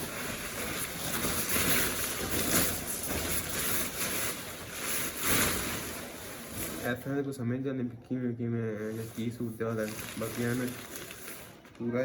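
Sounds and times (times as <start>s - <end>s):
plastic packaging rustling: 0.0s - 7.2s, 8.8s - 12.0s.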